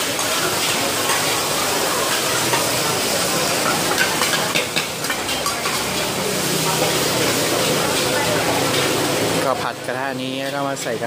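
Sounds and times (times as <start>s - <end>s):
batter sizzling on a griddle: 0.0s - 11.0s.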